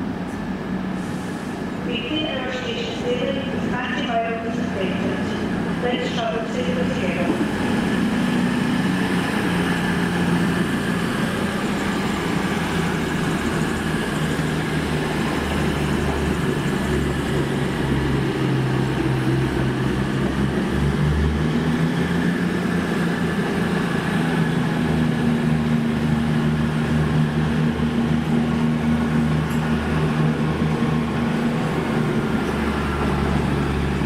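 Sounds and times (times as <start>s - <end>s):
diesel train engine drone: 0.0s - 34.0s.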